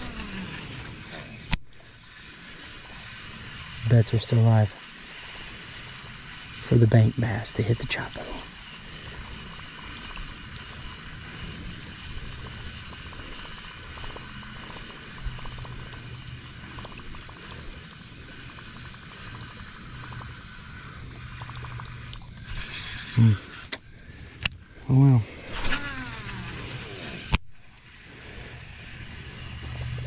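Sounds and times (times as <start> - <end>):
fishing lure churning water: 0.0 - 30.0.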